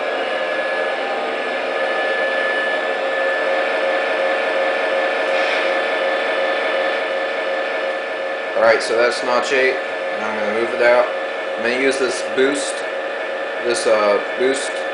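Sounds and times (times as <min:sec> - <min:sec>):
model locomotive engine drone: 0:00.0 - 0:14.9.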